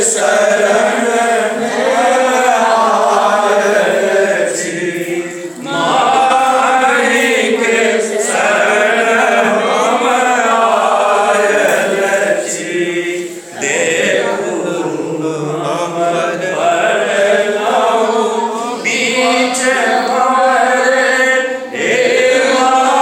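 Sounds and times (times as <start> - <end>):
men singing together: 0.0 - 23.0.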